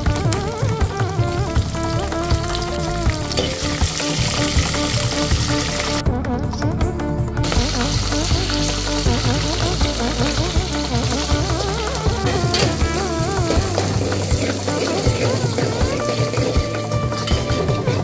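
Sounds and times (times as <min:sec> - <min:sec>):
background music with melody: 0:00.0 - 0:18.0
chillies sizzling in hot oil: 0:01.6 - 0:06.0, 0:07.4 - 0:18.0.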